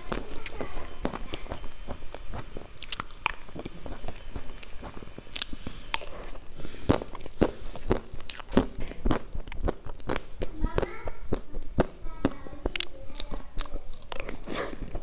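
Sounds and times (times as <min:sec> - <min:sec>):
mouth smacks and chewing: 0:00.1 - 0:15.0.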